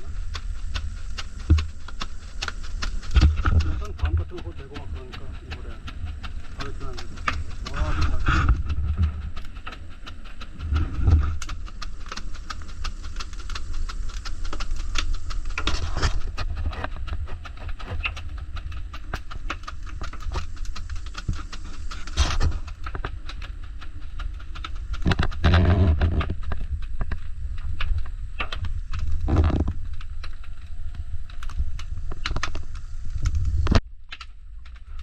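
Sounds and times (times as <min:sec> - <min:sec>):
firewood crackling with pops: 0:00.0 - 0:35.0
low fire rumble: 0:00.0 - 0:35.0.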